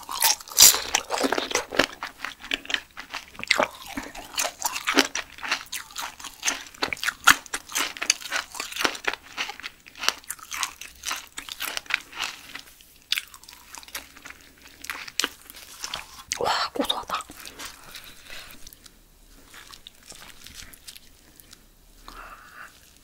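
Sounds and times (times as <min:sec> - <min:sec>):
wet crunchy chewing: 0:00.0 - 0:23.0.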